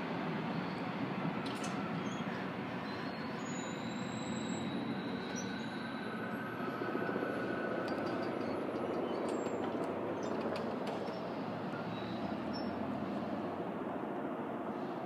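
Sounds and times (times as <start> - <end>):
wheels squealing on rails: 0.0 - 13.5
light rail train rumble: 0.0 - 15.0.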